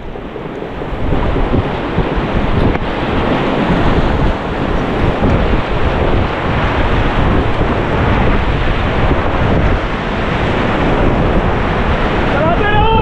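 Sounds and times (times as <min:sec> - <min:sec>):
white-water river rushing: 0:00.0 - 0:13.0
wind buffeting microphone: 0:00.0 - 0:13.0.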